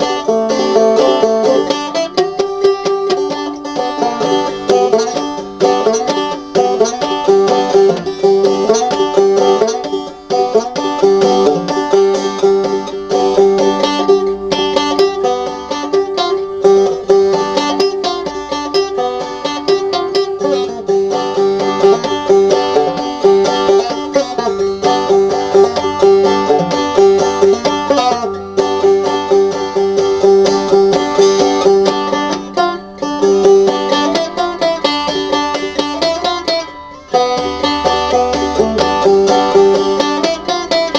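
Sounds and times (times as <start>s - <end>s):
banjo playing: 0.0s - 40.9s.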